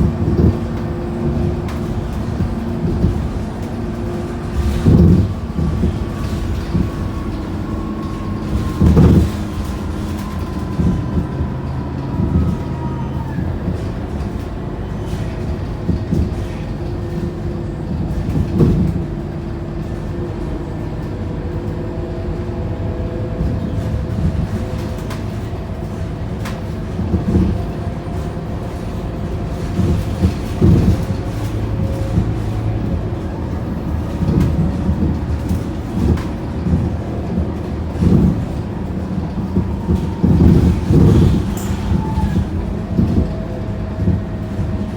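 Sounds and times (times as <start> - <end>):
bus body rattles and thumps: 0.0 - 44.9
bus engine drone with whine: 0.0 - 44.9.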